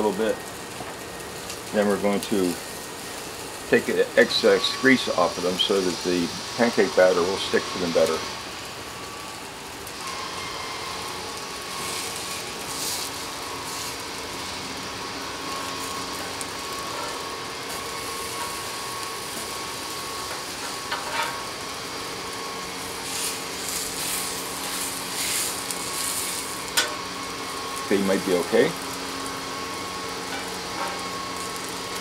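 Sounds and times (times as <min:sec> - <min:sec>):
sausages sizzling on a griddle: 0:00.0 - 0:32.0.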